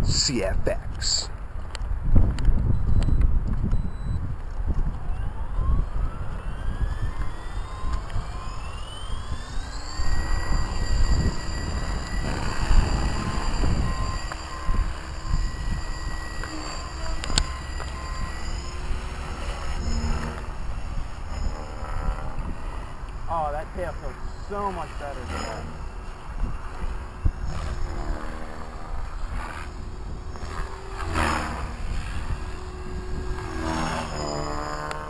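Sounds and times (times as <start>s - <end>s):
wind rumble on microphone: 0.0s - 35.0s
rc helicopter motor whine: 1.1s - 35.0s.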